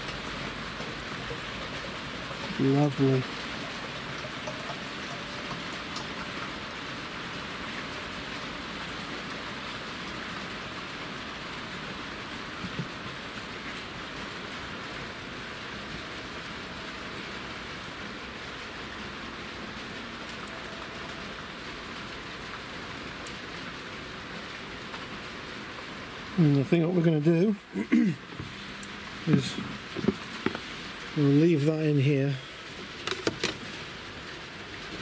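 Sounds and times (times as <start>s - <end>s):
rain falling on gravel: 0.0s - 35.0s.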